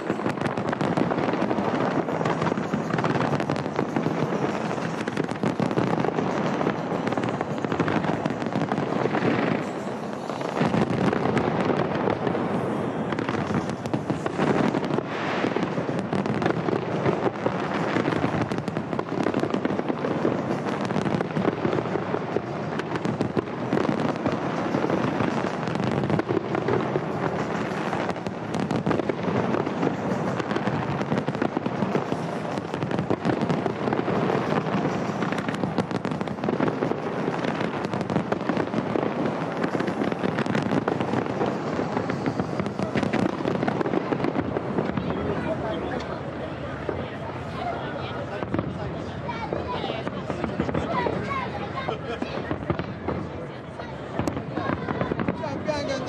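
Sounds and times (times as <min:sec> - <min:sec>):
fireworks bursts and crackles: 0:00.0 - 0:56.0.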